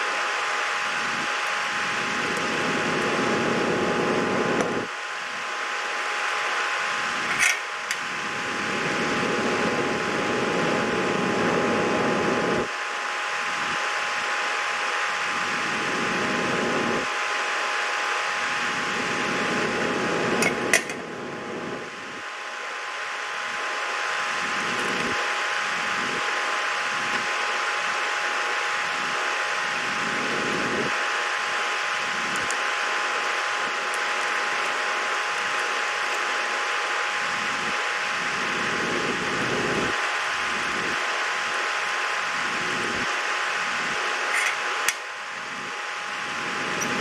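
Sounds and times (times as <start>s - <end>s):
mechanical hum with whine: 0.0s - 47.0s.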